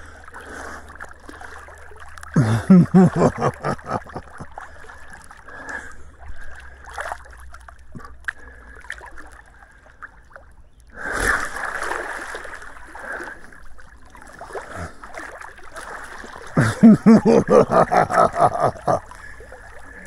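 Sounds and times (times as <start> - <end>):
pool water splashing: 0.0 - 20.0.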